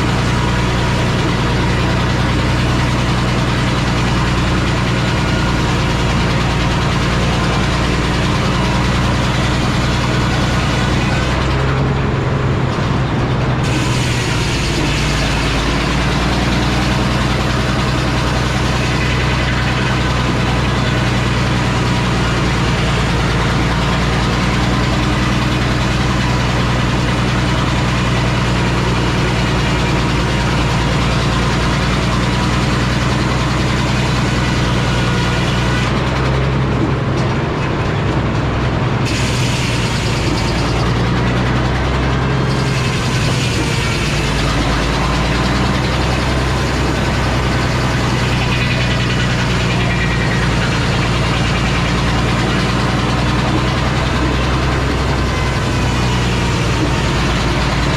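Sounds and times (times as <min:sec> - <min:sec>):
saw blade cutting log: 0:00.0 - 0:12.8, 0:13.5 - 0:37.2, 0:39.0 - 0:57.9
sawmill engine running: 0:00.0 - 0:57.9.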